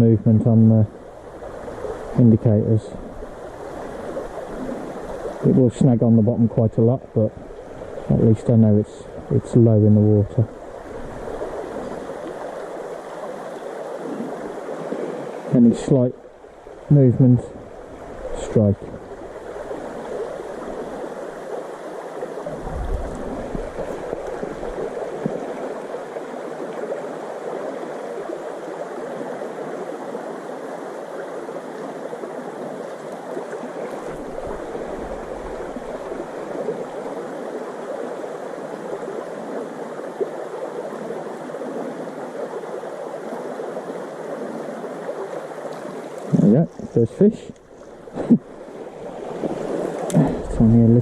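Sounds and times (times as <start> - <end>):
river water rushing: 0.9 - 8.4, 9.0 - 51.0.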